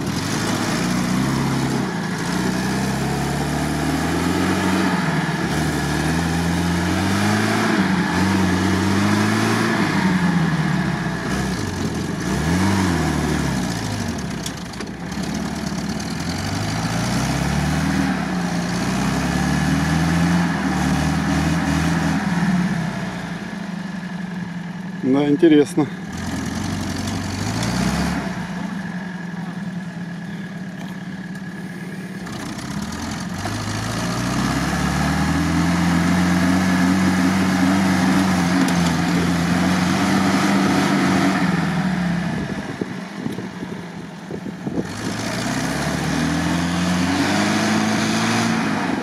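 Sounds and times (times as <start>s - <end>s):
engine revs rising and falling: 0.0s - 23.5s, 25.1s - 29.0s, 31.9s - 43.7s, 44.3s - 49.0s.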